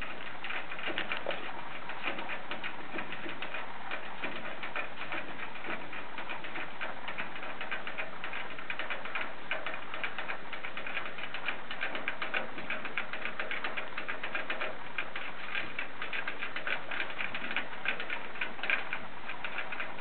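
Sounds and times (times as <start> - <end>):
ferrets licking water bottle spout: 0.0 - 20.0.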